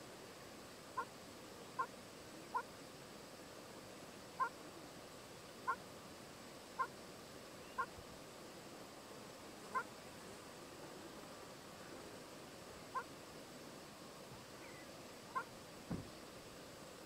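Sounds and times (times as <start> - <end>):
faint outdoor background: 0.0 - 17.0.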